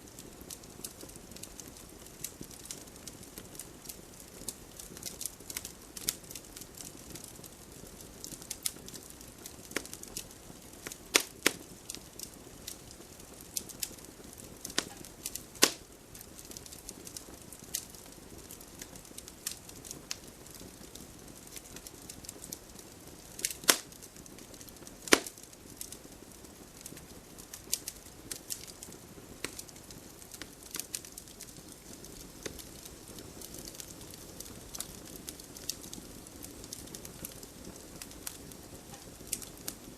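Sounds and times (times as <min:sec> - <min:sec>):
low steady hiss: 0:00.0 - 0:39.9
wood fire crackling: 0:00.0 - 0:39.9
fire pops and snaps: 0:00.1 - 0:39.9.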